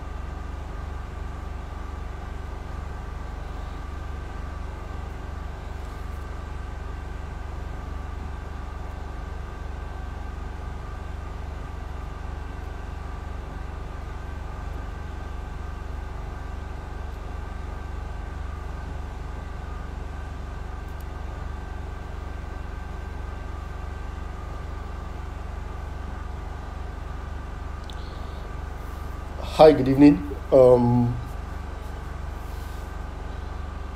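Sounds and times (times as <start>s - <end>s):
low mechanical hum: 0.0s - 33.9s.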